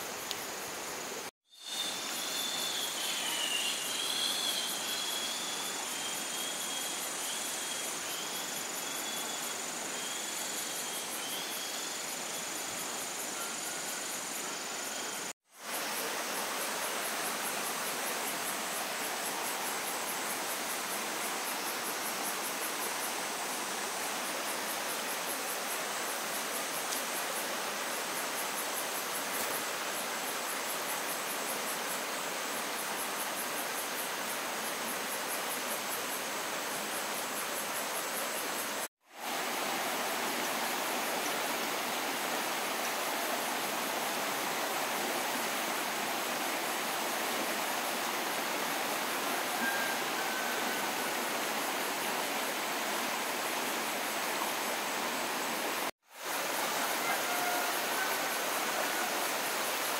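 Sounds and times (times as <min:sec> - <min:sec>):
background hiss: 0:00.0 - 0:59.9
insects chirping: 0:00.0 - 0:59.9.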